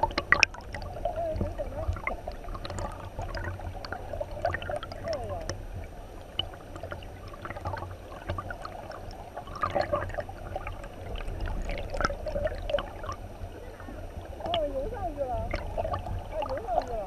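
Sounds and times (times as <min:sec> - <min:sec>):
low water rumble: 0:00.0 - 0:17.0
underwater gurgling and bubbling: 0:00.0 - 0:17.0.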